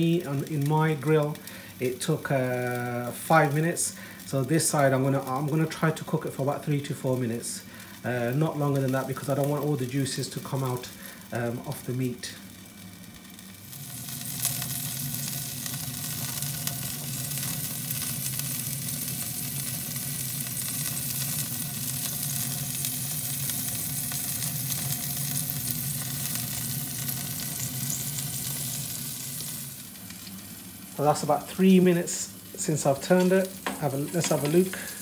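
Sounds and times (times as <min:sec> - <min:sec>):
meat sizzling under a grill: 0:00.0 - 0:35.0.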